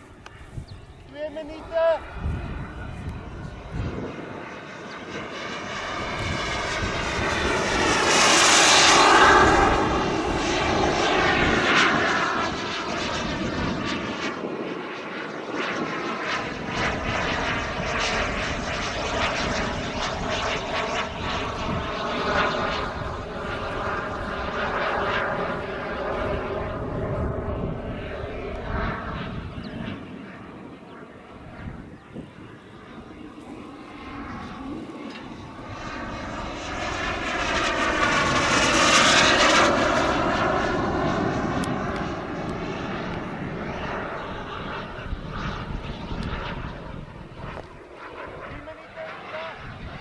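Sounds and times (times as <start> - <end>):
model jet engine whine: 0.0 - 50.0.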